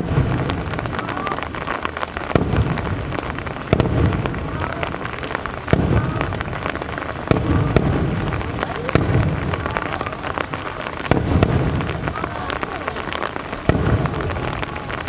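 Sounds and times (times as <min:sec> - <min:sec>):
fireworks booming: 0:00.0 - 0:15.0
rain falling: 0:00.0 - 0:15.0.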